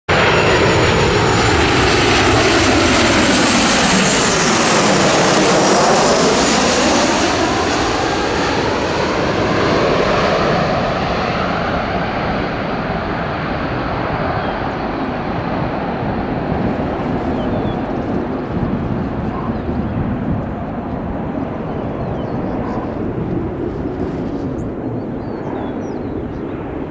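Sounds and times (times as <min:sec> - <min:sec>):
airliner passing: 0:00.1 - 0:26.9.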